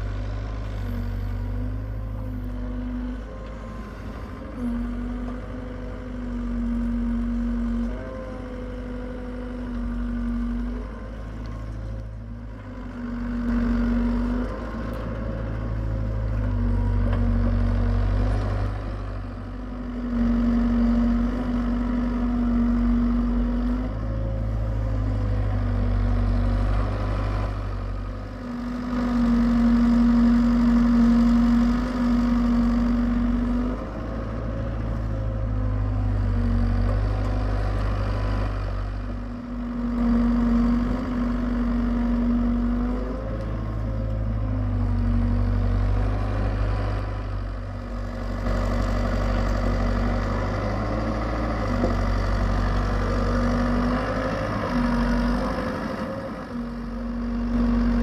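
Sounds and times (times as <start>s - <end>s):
constant low drone: 0.0s - 58.0s
excavator diesel engine digging: 0.0s - 58.0s.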